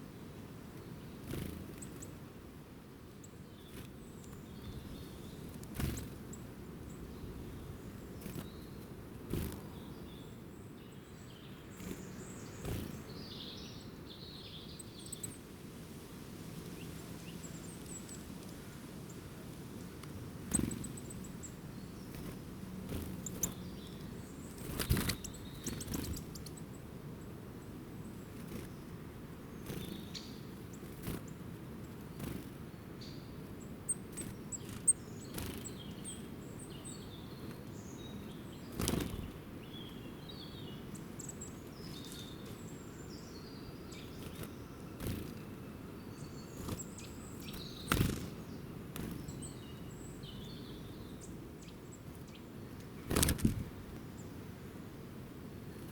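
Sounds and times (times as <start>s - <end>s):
small birds chirping: 0.0s - 2.3s, 3.0s - 15.6s, 16.3s - 54.8s
low outdoor background noise: 0.0s - 55.9s.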